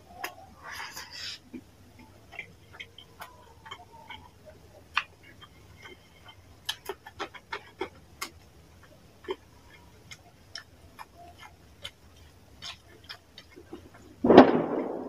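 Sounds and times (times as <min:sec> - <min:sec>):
wet chewing and lip smacks: 0:00.2 - 0:14.2.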